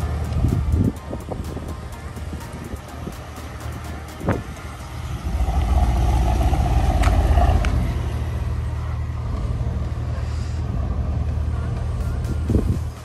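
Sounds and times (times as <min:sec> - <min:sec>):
car engine: 0:00.0 - 0:13.0
road rumble: 0:00.0 - 0:13.0.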